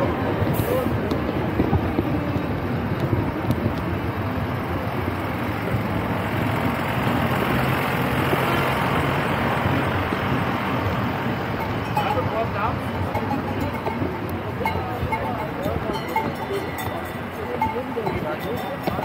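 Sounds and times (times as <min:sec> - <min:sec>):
diesel engines idling: 0:00.0 - 0:19.0
street noise: 0:00.0 - 0:19.0.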